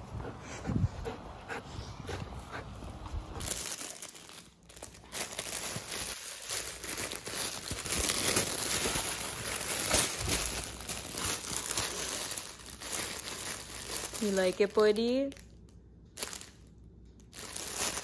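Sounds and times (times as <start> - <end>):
plush dog toy crinkling: 3.2 - 18.0.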